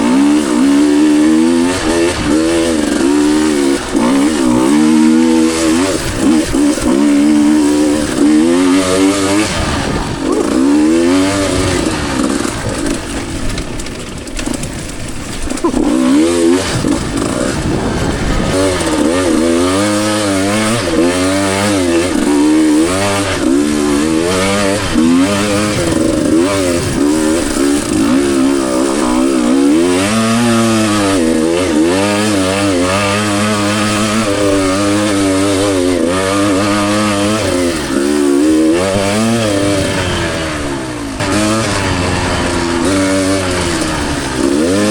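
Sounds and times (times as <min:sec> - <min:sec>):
two-stroke dirt bike engine revving: 0:00.0 - 0:44.9.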